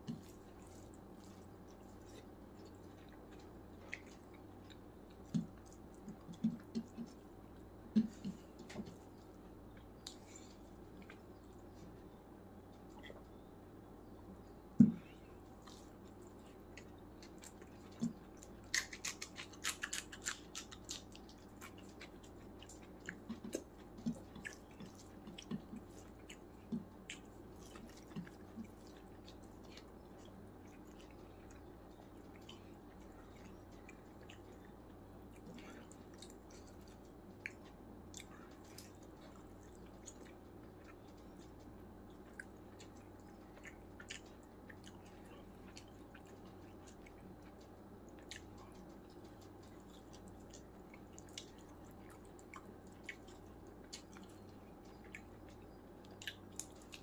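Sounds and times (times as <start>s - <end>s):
person chewing: 0.0s - 12.0s, 14.8s - 57.0s.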